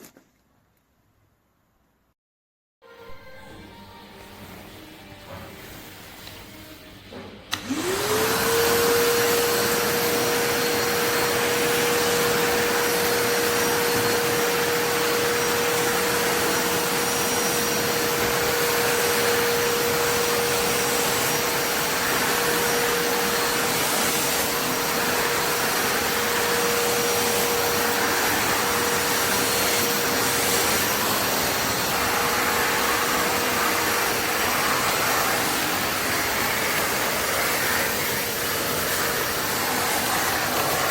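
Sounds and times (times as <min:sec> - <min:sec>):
vacuum cleaner motor whine: 0:03.0 - 0:40.9.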